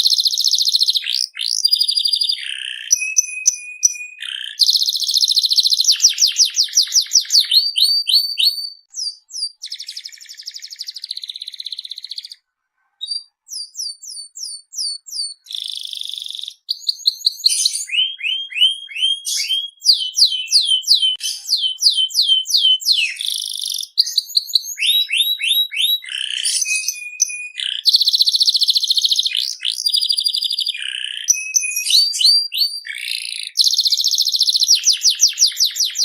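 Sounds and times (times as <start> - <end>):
canary singing: 0.0 - 36.0.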